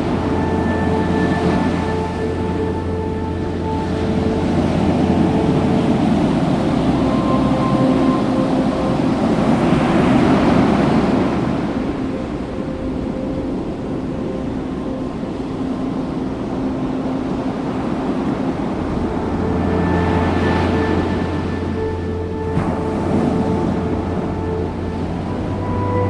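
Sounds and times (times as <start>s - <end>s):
faint background music: 0.0s - 26.0s
ocean surf on a beach: 0.0s - 26.0s.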